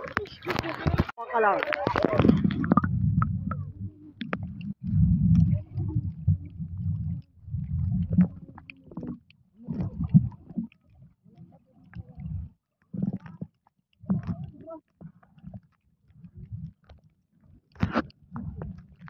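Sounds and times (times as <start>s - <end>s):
muffled underwater water rumble: 0.0s - 19.0s.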